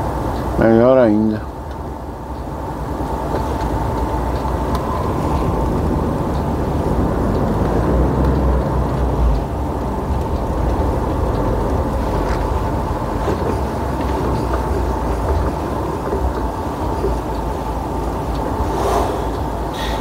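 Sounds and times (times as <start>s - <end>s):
diesel engine rumble: 0.0s - 20.0s
faint steady whine: 0.0s - 20.0s.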